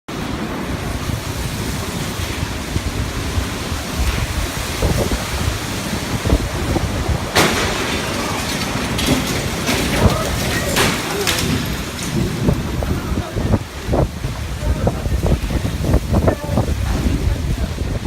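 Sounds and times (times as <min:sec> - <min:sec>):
rain: 0:00.1 - 0:18.0
strong wind gusts: 0:00.1 - 0:18.0
wind buffeting microphone: 0:00.1 - 0:18.0.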